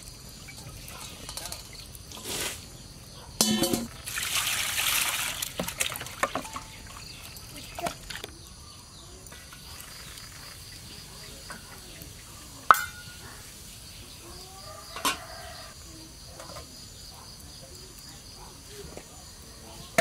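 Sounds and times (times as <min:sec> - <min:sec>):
charcoal burning: 0:00.0 - 0:20.0.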